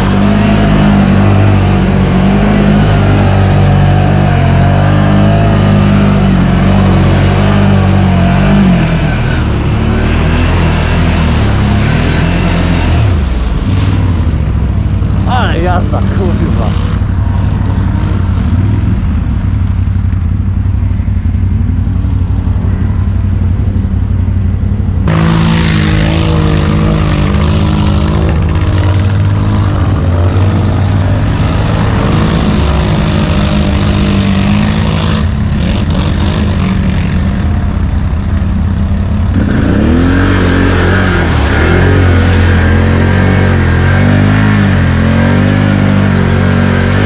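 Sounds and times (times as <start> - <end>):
engine revving: 0.0 - 19.6, 25.0 - 47.0
atv engines running under load: 0.0 - 47.0.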